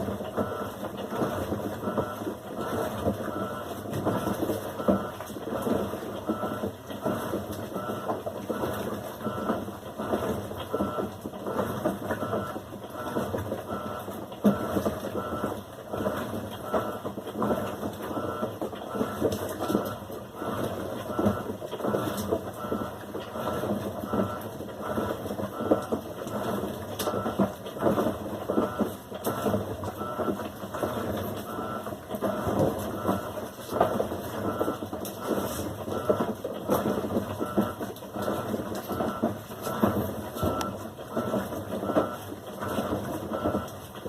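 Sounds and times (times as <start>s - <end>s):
washing machine churning: 0.0s - 44.0s.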